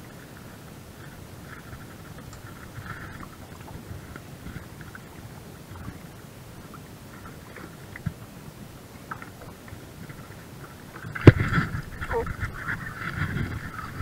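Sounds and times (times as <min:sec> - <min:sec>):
boat rumble: 0:00.0 - 0:14.0.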